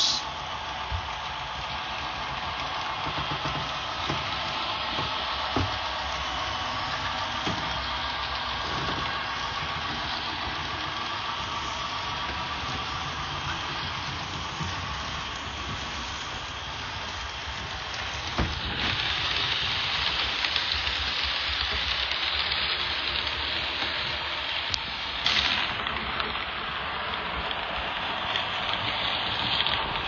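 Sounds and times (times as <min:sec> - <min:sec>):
model train wheels clattering: 0:00.0 - 0:30.0.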